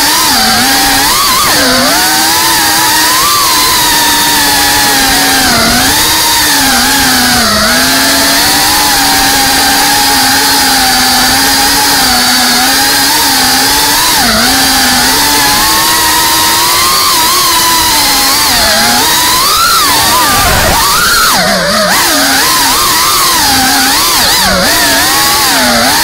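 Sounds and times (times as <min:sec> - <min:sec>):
drone propellers whining: 0:00.0 - 0:26.0.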